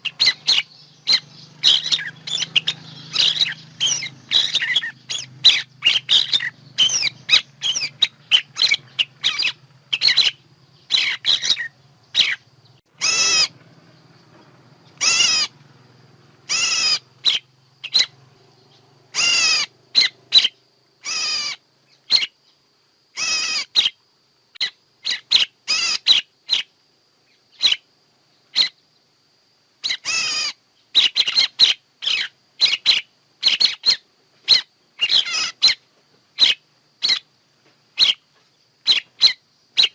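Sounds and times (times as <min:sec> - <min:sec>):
bird chirping: 0:00.0 - 0:29.1, 0:29.8 - 0:39.9.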